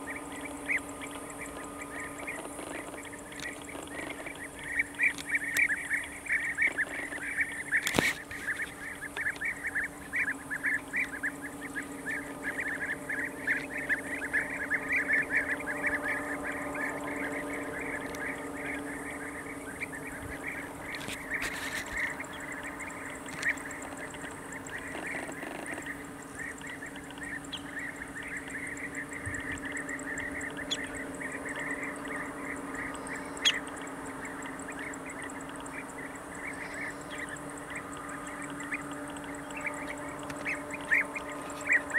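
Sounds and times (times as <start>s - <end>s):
flock of birds chattering: 0.0s - 41.9s.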